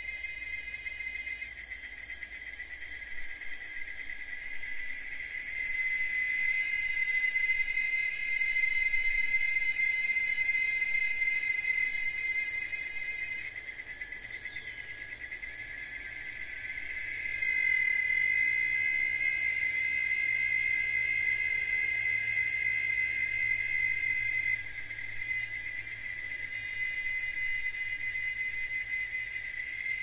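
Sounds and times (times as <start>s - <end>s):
shrill insect chorus: 0.0s - 30.0s.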